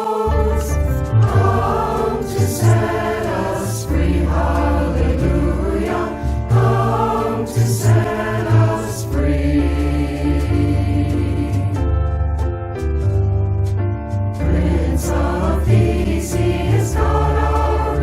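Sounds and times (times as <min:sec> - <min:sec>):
choir singing: 0:00.0 - 0:11.9, 0:14.4 - 0:18.0
sustained low accompaniment: 0:00.3 - 0:18.0.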